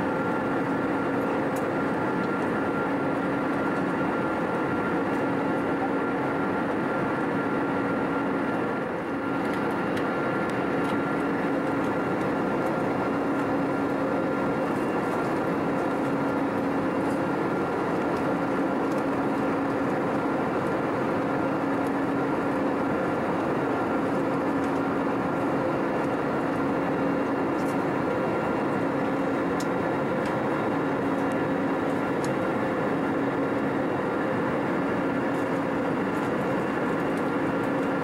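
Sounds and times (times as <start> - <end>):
airflow rush in cabin: 0.0 - 38.0
jet engine hum: 0.0 - 38.0.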